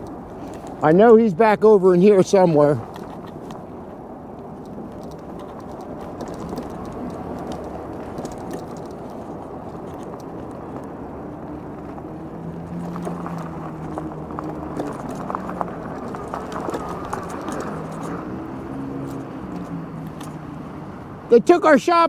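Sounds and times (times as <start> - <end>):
small rattles and clicks: 0.0 - 0.9, 2.3 - 21.2
tyres rumbling: 0.0 - 22.0
wind: 0.0 - 22.0.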